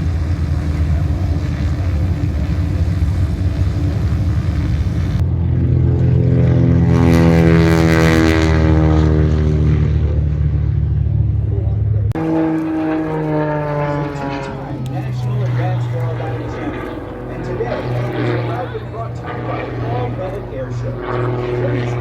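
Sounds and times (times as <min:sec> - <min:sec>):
plane flying past: 0:00.0 - 0:22.0
propeller aircraft engine: 0:00.0 - 0:22.0.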